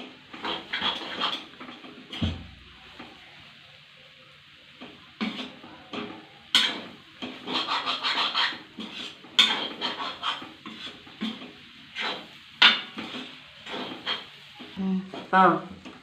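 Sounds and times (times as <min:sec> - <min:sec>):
utensil scraping food in a pan: 0:00.0 - 0:02.2, 0:04.9 - 0:16.0.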